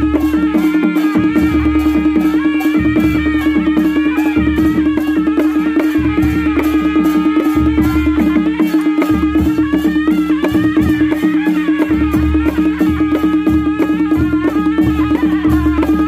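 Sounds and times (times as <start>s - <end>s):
barrel drum beat: 0.0s - 16.0s
shehnai melody over drone: 0.0s - 16.0s.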